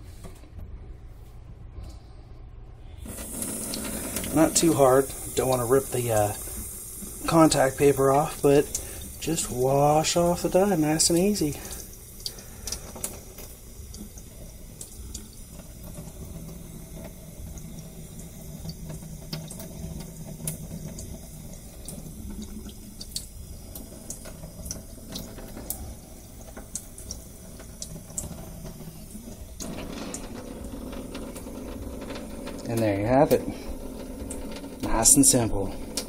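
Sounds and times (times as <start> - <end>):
faucet water splashing on plastic: 3.0 - 36.0.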